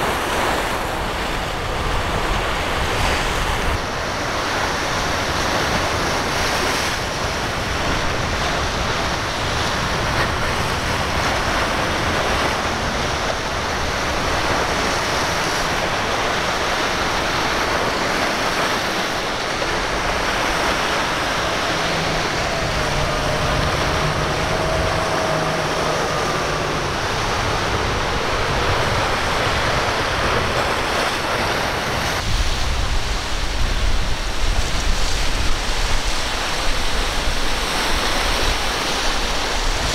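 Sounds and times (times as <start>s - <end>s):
boat engine passing: 0.0s - 39.9s
waves breaking: 0.0s - 39.9s
wind buffeting microphone: 0.0s - 39.9s.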